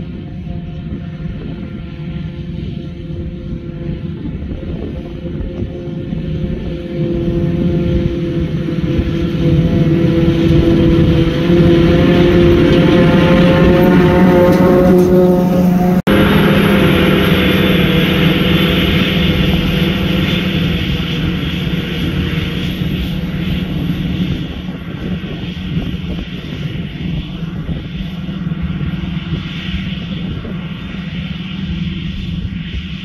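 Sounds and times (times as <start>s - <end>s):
forage harvester drone: 0.0s - 33.0s.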